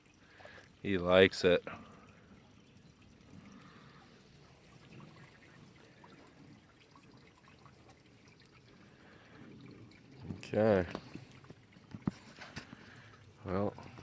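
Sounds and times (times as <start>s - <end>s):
faint trickle of water: 0.0s - 14.0s.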